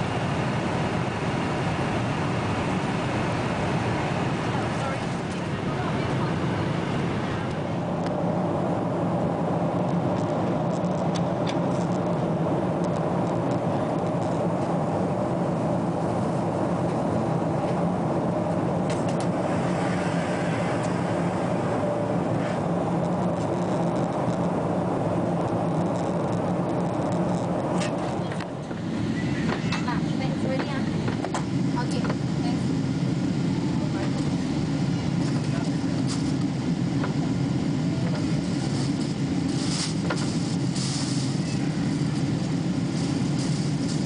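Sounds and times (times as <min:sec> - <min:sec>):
airplane cabin drone: 0:00.0 - 0:44.0.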